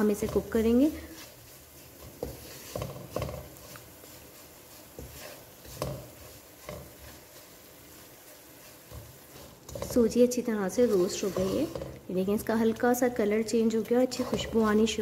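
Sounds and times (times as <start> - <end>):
wooden spatula scraping a wok: 0.0 - 15.0.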